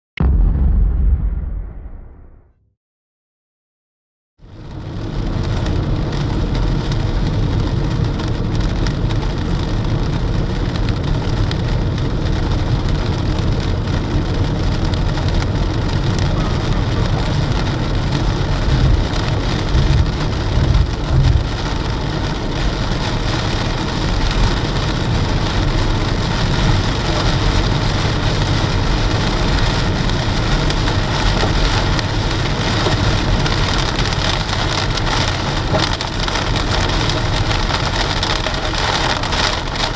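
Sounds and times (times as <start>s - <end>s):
low rumbles: 0.2s - 2.7s, 4.5s - 39.9s
heavy rain on a car: 4.4s - 39.9s
road and engine noise: 4.4s - 39.9s.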